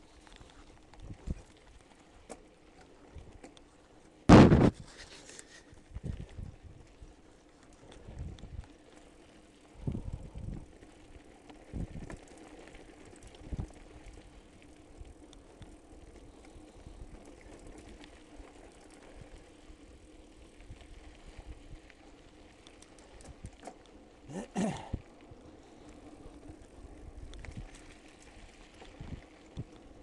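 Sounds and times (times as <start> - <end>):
bike rolling on gravel: 0.0 - 30.0.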